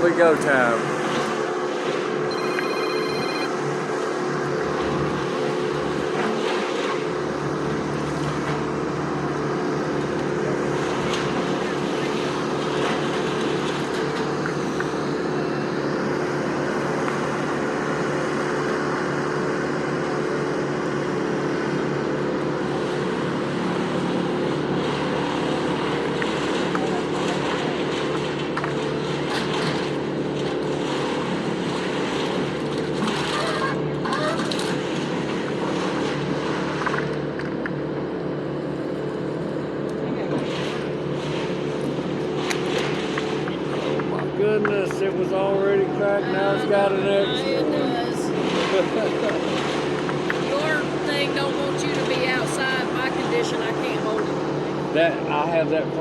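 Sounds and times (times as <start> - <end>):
heavy equipment engine running: 0.0 - 56.0.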